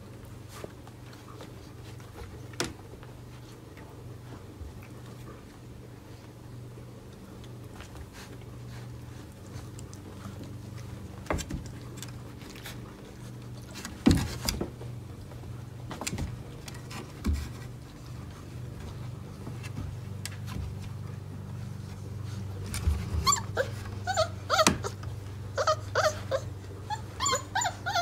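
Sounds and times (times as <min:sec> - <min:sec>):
puppy paws pattering and scrabbling: 0:00.0 - 0:28.0
steady low hum: 0:00.0 - 0:28.0.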